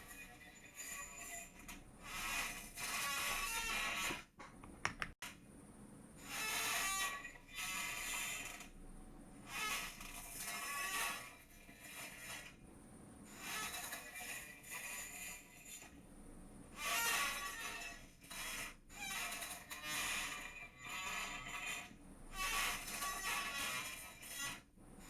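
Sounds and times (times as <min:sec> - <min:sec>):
chair creaking and squeaking: 0:00.0 - 0:05.2, 0:06.3 - 0:08.7, 0:09.5 - 0:12.5, 0:13.3 - 0:16.0, 0:16.8 - 0:24.6.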